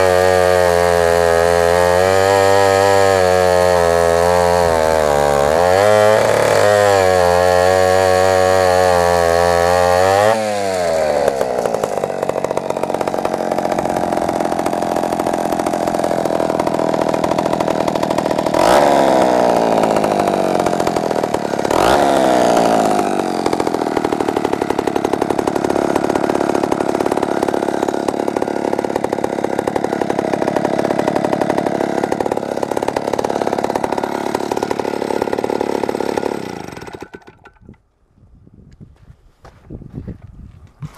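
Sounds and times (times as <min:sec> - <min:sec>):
chainsaw revving: 0:00.0 - 0:37.8.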